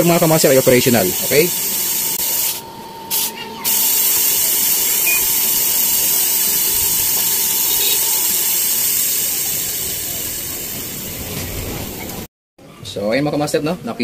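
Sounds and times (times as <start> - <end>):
hiss of refrigerant: 0.0 - 12.3.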